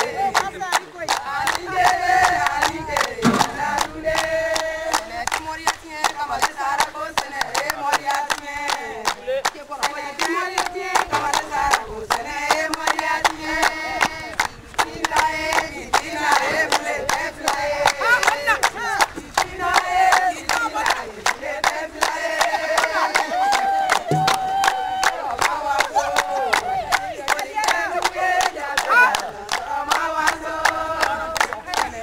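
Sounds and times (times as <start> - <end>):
rhythmic hand clapping: 0.0 - 32.0
women singing chant-like phrases: 0.0 - 32.0.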